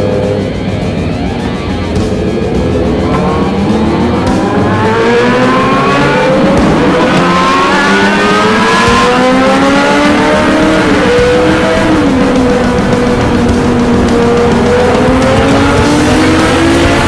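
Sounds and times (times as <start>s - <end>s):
motorcycle engines accelerating: 0.0s - 17.0s.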